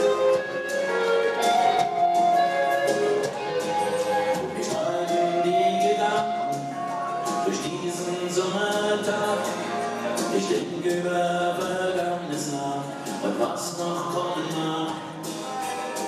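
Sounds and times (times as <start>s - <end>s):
acoustic and electric guitars: 0.0s - 16.0s
drums: 0.0s - 16.0s
sung vocals: 1.4s - 16.0s.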